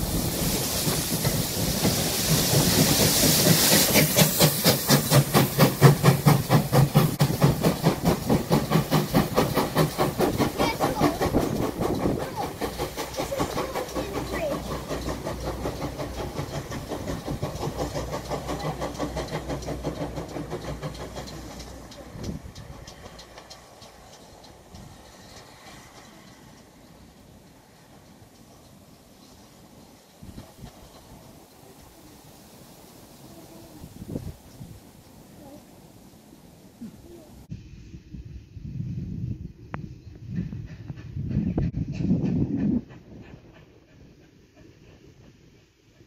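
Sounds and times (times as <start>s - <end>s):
steam hissing: 0.0s - 46.0s
steam locomotive beat: 0.0s - 46.0s.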